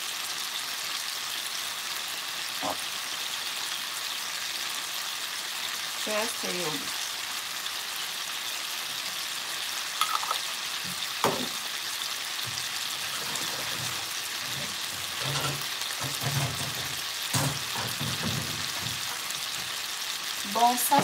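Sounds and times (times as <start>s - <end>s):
meat sizzling in a frying pan: 0.0s - 21.0s.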